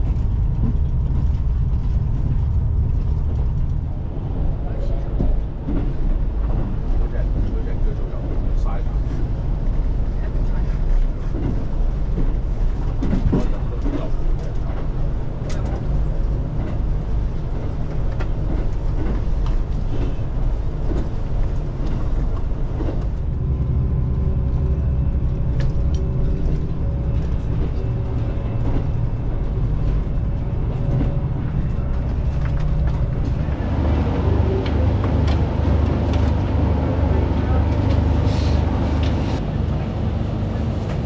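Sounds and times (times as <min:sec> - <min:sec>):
diesel engine drone: 0:00.0 - 0:41.0
train running on rails: 0:00.0 - 0:41.0.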